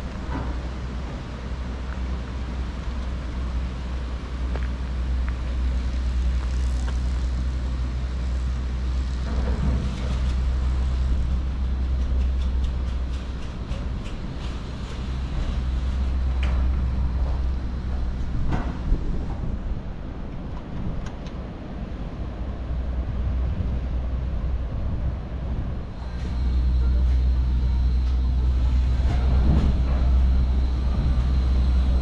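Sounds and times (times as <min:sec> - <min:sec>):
chairlift mechanical rumble: 0:00.0 - 0:32.0.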